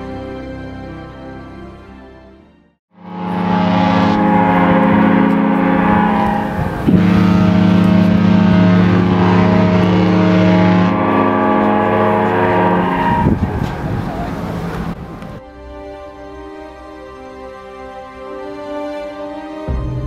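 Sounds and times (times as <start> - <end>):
ship horn blast: 2.9 - 19.9.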